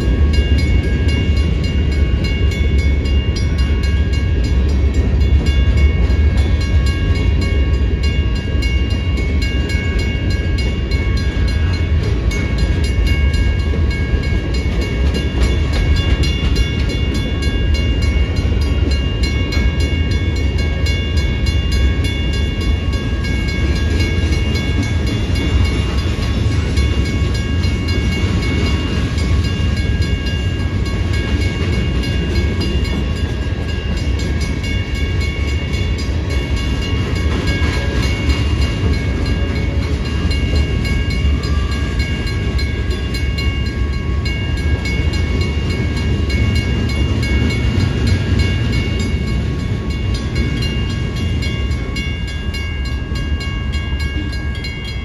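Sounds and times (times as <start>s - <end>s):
crossing bells ringing: 0.0s - 55.0s
freight train rumbling: 0.0s - 55.0s.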